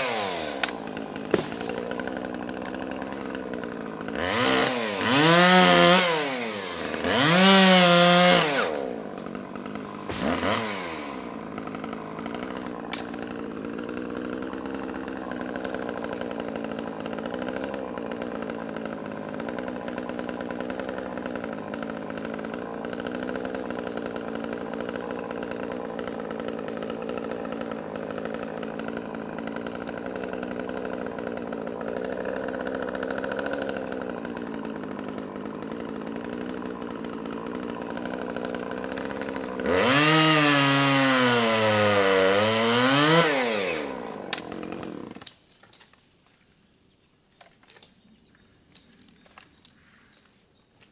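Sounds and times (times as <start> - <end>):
chainsaw revving and idling: 0.0 - 45.8.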